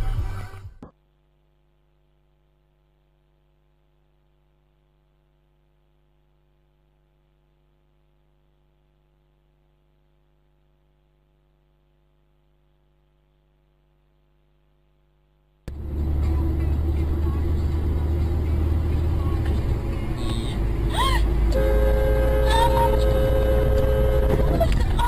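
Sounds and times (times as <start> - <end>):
electrical hum: 1.4 - 25.0.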